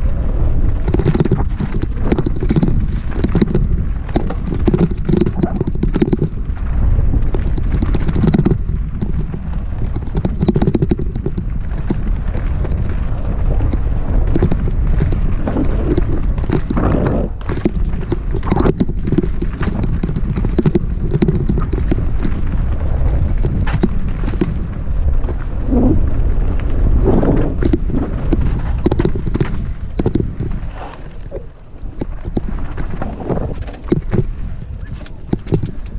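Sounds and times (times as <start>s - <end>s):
bike rattling over stones: 0.0s - 35.9s
wind buffeting microphone: 0.0s - 35.9s.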